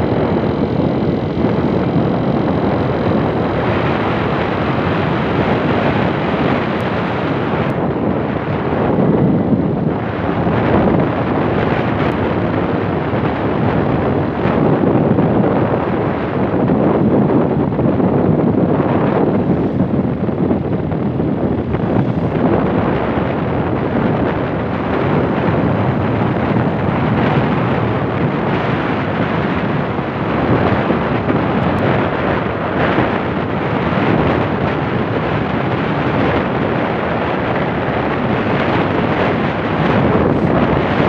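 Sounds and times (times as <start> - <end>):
vehicle running and road noise: 0.0 - 41.0
wind buffeting microphone: 0.0 - 41.0.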